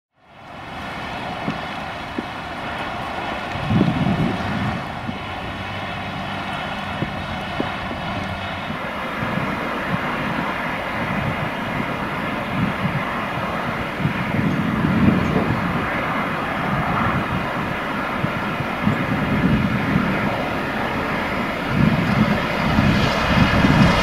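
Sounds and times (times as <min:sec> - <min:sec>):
steam locomotive exhaust beats: 0:00.3 - 0:24.0.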